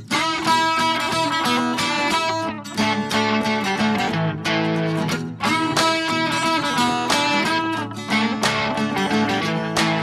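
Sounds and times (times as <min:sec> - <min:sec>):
guitar background music: 0:00.0 - 0:10.0.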